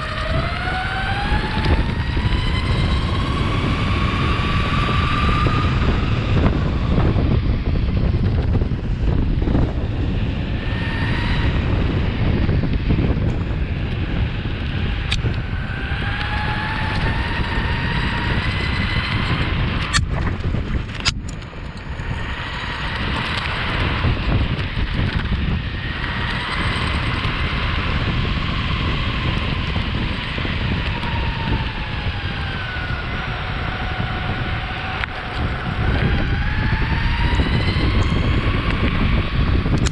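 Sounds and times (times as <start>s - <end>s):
electric motor whine: 0.0s - 39.9s
wheels rumbling on pavement: 0.0s - 39.9s
wind on the microphone: 0.0s - 39.9s.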